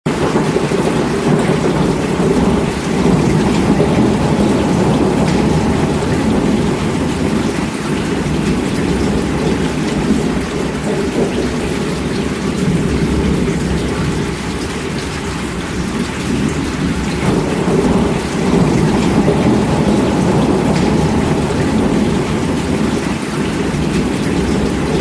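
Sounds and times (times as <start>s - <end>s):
heavy rain falling: 0.1s - 25.0s
continuous low rumble: 1.5s - 25.0s.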